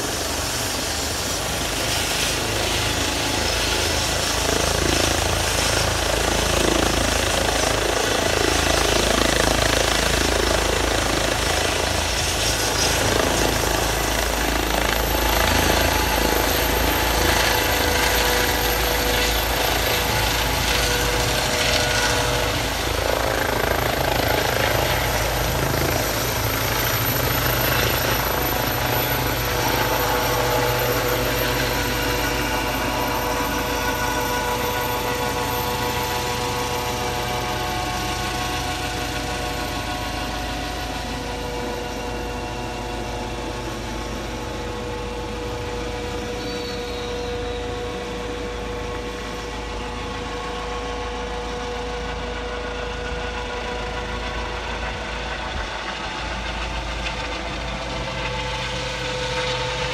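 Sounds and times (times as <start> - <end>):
helicopter rotor and turbine: 0.0 - 59.9.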